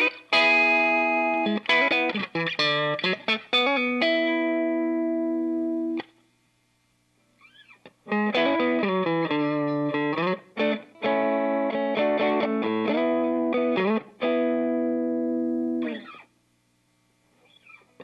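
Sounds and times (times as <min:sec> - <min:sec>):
overdriven electric guitar chords: 0:00.0 - 0:06.2, 0:07.5 - 0:16.3.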